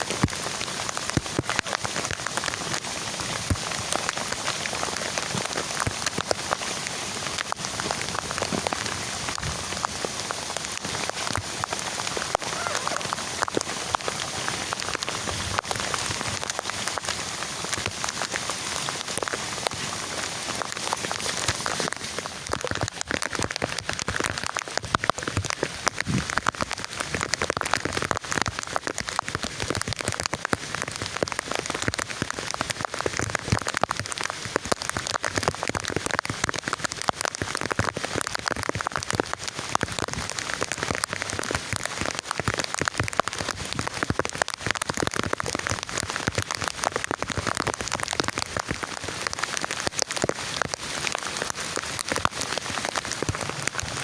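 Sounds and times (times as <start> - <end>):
heavy rain falling: 0.0 - 54.0
raindrop impacts close by: 0.0 - 54.0.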